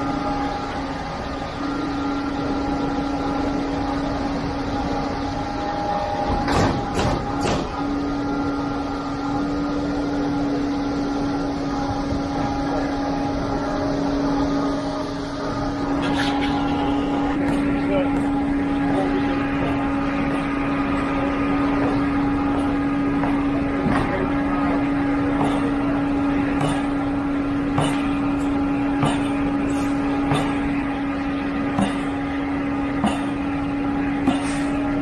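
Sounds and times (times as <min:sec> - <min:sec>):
truck engine droning: 0:00.0 - 0:35.0.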